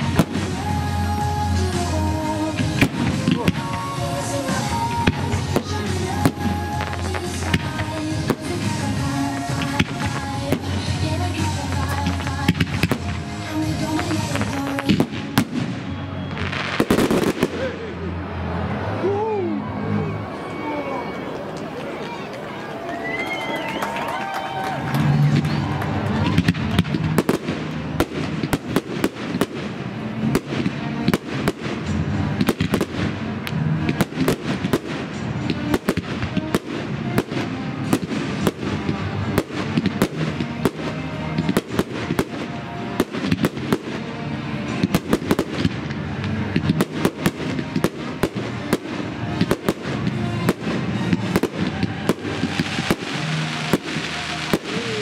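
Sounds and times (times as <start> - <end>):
fireworks bangs: 0.0 - 19.0, 24.8 - 55.0
fireworks crackling: 0.0 - 19.0, 21.2 - 55.0.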